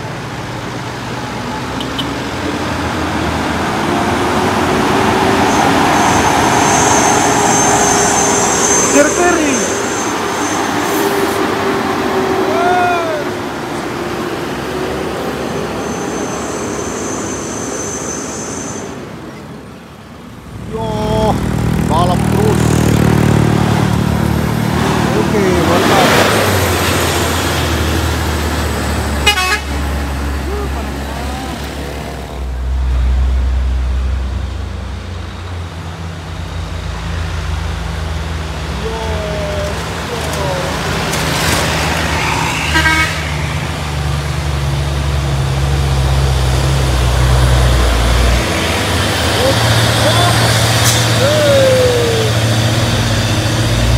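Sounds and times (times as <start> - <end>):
road noise: 0.0 - 53.9
truck diesel engine passing: 0.0 - 53.9.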